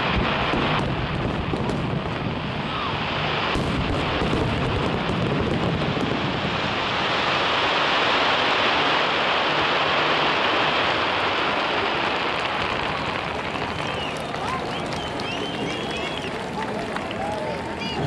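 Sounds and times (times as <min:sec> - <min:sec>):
fireworks shells booming: 0:00.0 - 0:16.6
fireworks crackling: 0:00.0 - 0:18.0.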